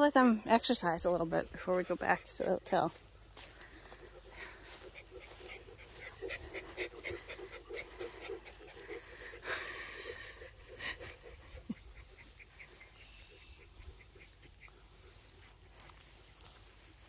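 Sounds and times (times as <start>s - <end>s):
dog panting: 1.1s - 17.0s.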